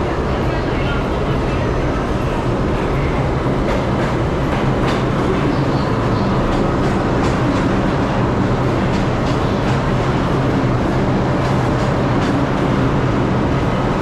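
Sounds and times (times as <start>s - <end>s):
subway train running: 0.0s - 14.0s
wheels clicking on rails: 2.2s - 14.0s.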